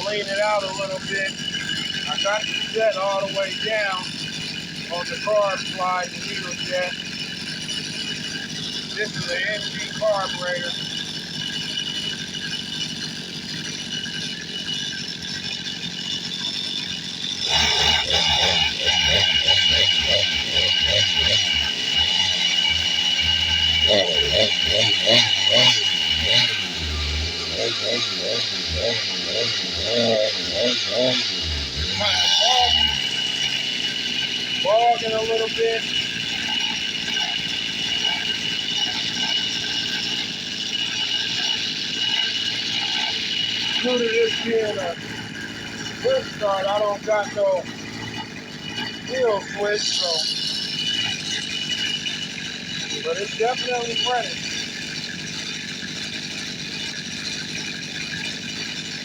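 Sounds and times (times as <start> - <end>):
small two-stroke engine rattling: 0.0 - 59.0.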